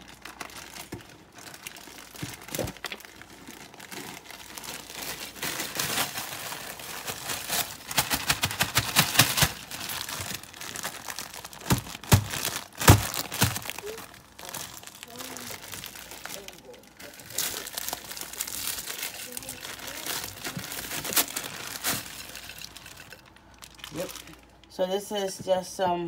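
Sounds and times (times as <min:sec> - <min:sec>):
frozen vegetables clattering into pot: 0:00.0 - 0:24.4
plastic bag crinkling: 0:00.0 - 0:24.8.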